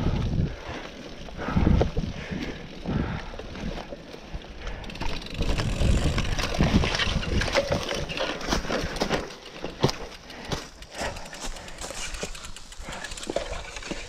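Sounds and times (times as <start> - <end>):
bike frame and chain rattling: 0.0 - 14.0.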